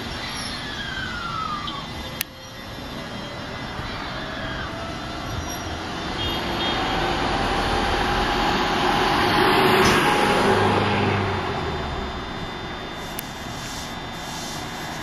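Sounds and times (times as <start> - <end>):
electric train rumbling on track: 0.0 - 15.0
faint motor whine: 0.0 - 15.0.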